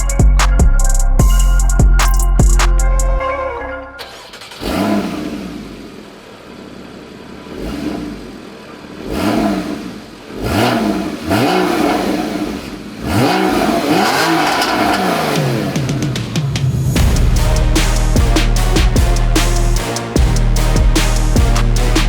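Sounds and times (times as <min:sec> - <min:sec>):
car engine revving: 0:04.0 - 0:22.0.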